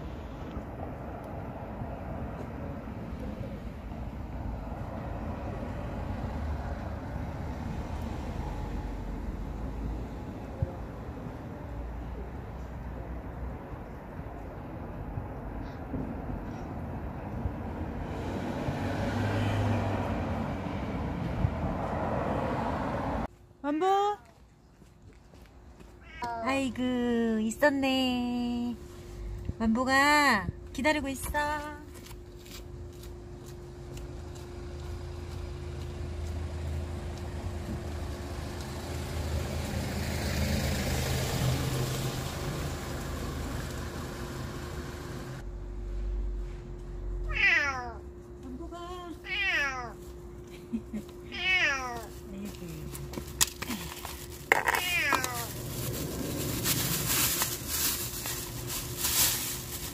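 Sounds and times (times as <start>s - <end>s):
vehicle engine hum: 0.0s - 23.5s, 30.6s - 59.9s.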